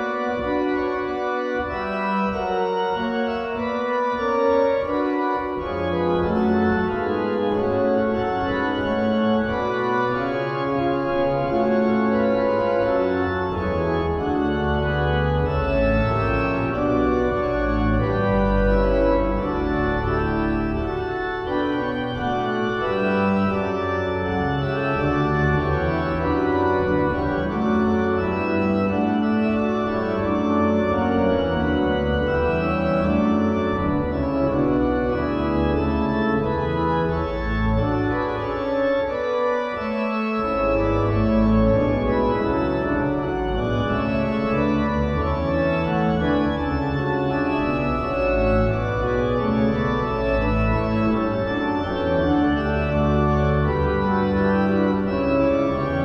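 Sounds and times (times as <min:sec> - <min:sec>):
deep organ pedal bass: 0:00.0 - 0:56.0
organ playing chords: 0:00.0 - 0:56.0.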